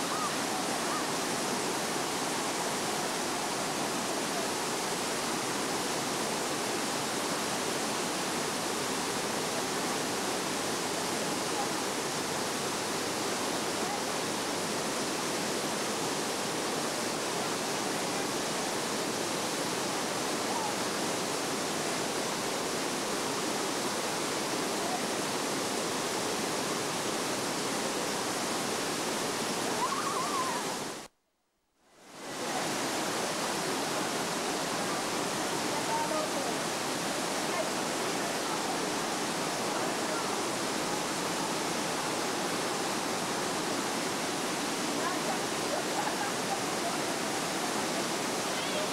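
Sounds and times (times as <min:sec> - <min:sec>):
water rushing over rocks: 0:00.0 - 0:31.1, 0:32.1 - 0:48.9.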